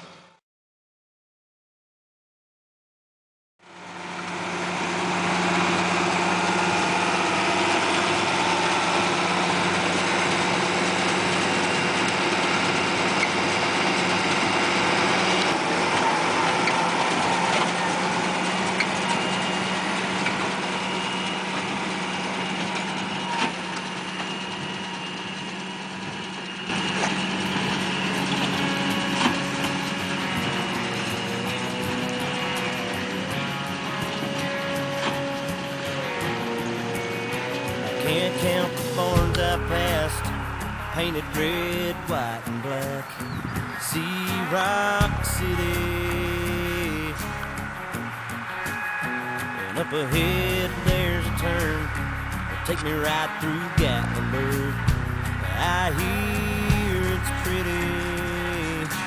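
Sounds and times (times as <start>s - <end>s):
tractor diesel engine under load: 3.6s - 59.0s.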